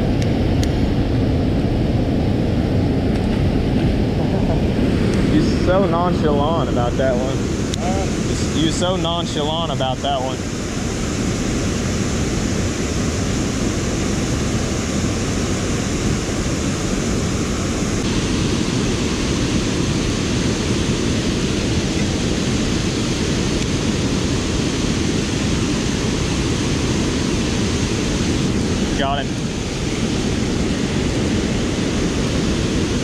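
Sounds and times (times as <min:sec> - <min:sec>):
water rushing over dam spillway: 0:04.7 - 0:33.0.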